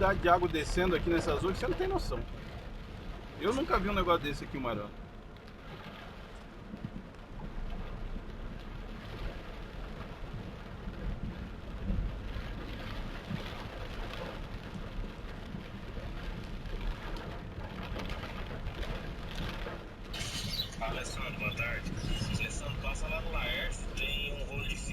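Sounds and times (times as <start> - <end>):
torrential rain pouring: 0.0 - 24.9
vehicle low rumble: 0.0 - 24.9.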